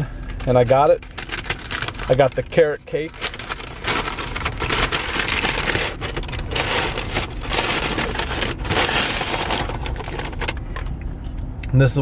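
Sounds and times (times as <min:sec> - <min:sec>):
packaging crinkling and rustling: 0:00.2 - 0:10.6.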